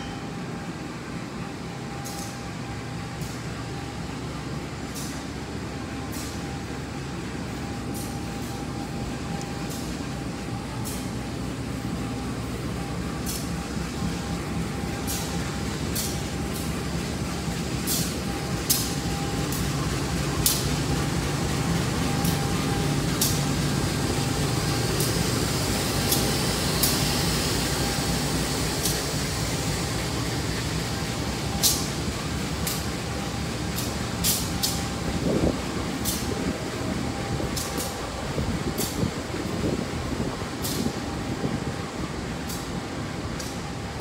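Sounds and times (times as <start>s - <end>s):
train rumbling and humming: 0.0s - 44.0s
sharp clicks of train wheels: 1.9s - 3.9s, 4.5s - 44.0s.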